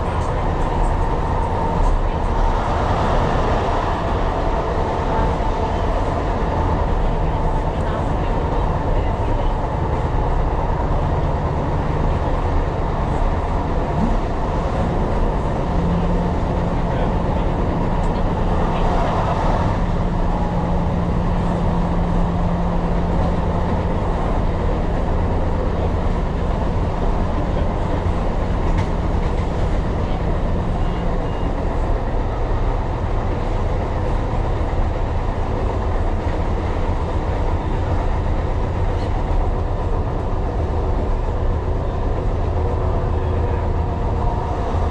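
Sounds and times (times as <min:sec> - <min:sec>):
train wheels rumbling: 0:00.0 - 0:44.9.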